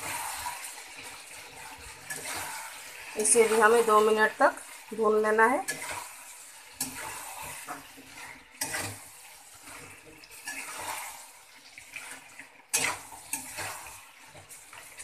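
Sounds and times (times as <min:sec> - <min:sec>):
low sizzle of frying: 0:00.0 - 0:15.0
spatula scraping metal pan: 0:00.0 - 0:15.0.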